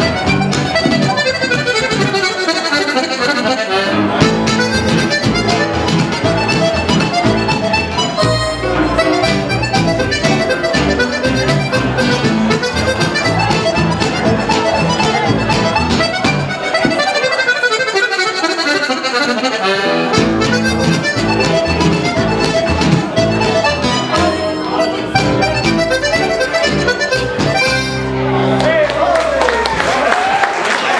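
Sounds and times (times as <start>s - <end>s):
button accordion folk tune: 0.0s - 28.4s
guitar: 0.0s - 29.8s
upright bass: 0.0s - 30.0s.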